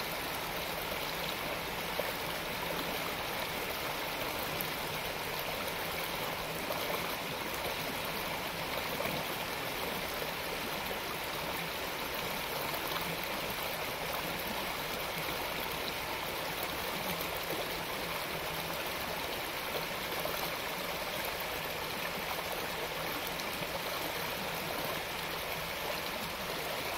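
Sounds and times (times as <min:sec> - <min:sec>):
creek water rushing over riffles: 0:00.0 - 0:26.9.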